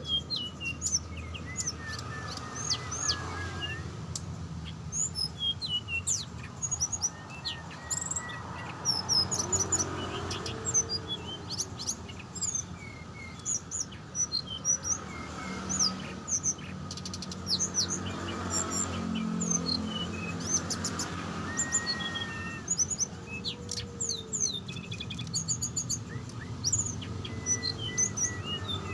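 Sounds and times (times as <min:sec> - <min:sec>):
songbirds chirping: 0:00.0 - 0:28.9.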